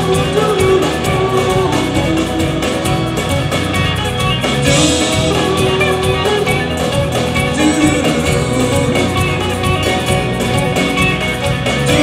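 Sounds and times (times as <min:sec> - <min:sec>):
acoustic guitar: 0:00.0 - 0:12.0
live band music: 0:00.0 - 0:12.0.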